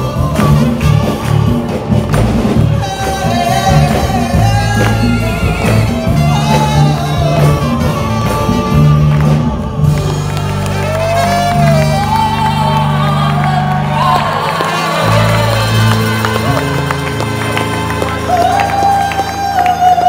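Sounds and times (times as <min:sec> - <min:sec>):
bass line: 0:00.0 - 0:20.0
percussion: 0:00.0 - 0:20.0
trumpet: 0:00.0 - 0:20.0.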